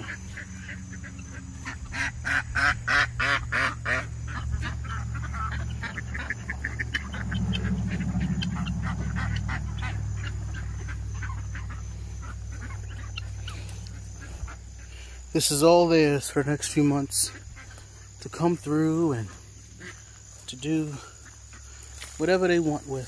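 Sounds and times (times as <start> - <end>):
ducks quacking: 0.0 - 22.3.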